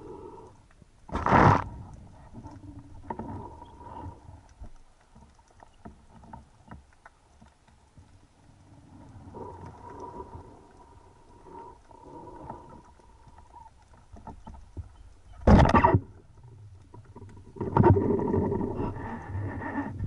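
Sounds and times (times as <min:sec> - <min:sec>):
underwater clicks and crackles: 0:00.0 - 0:20.0.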